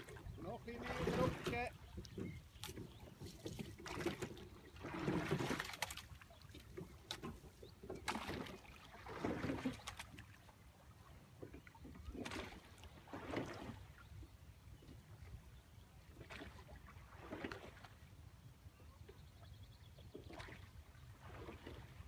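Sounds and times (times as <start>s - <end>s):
oars splashing and knocking: 0.0s - 14.2s, 16.1s - 18.1s, 20.0s - 22.0s.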